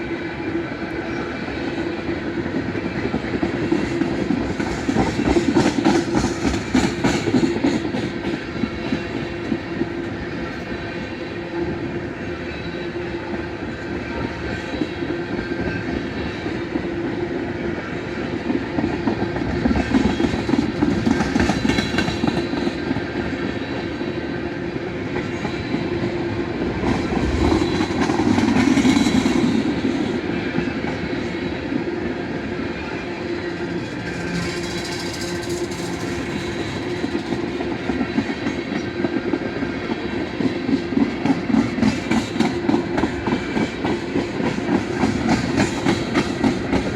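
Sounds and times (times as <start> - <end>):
rapid clicking of train wheels: 0.0 - 46.9.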